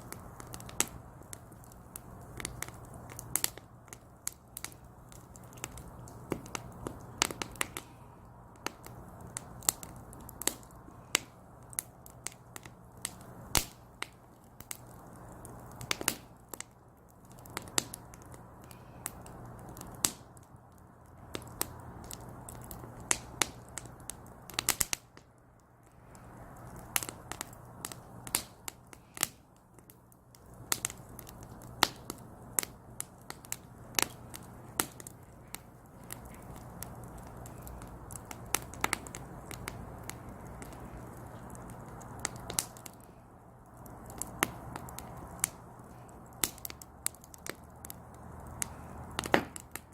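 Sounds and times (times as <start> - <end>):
firewood crackling and popping: 0.0 - 49.9
hiss of flames: 0.0 - 49.9.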